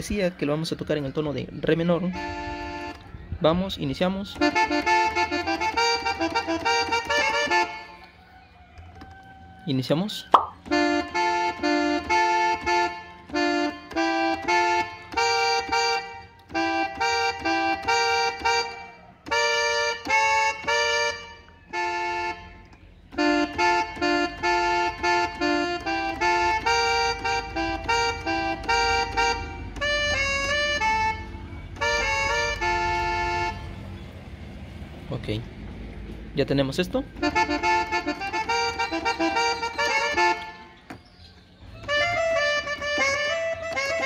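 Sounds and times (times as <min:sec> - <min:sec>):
keyboard accordion melody: 0:00.0 - 0:44.0.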